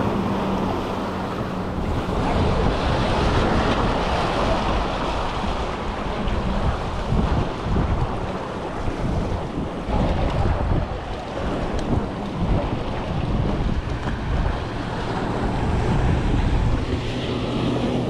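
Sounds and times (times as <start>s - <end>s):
waves washing against jetty: 0.0s - 18.0s
wind buffeting microphone: 0.0s - 18.0s.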